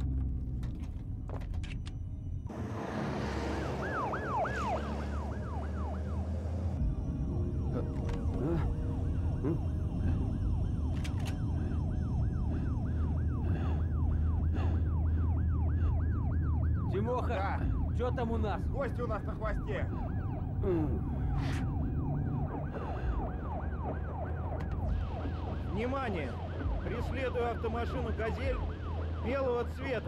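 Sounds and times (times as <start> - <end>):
low engine drone: 0.0 - 30.0
police siren yelping: 3.4 - 30.0.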